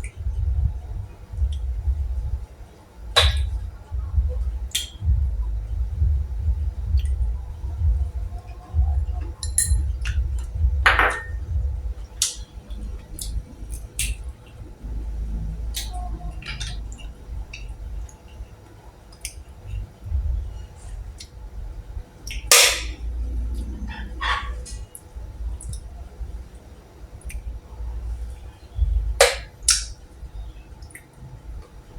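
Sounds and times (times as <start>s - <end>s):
low steady rumble: 0.0s - 31.9s.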